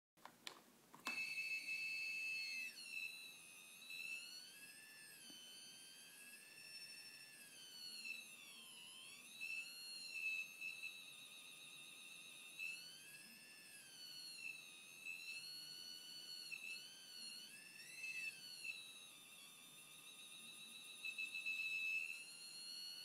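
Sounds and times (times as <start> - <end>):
high-pitched buzzer tone: 1.0 - 23.0.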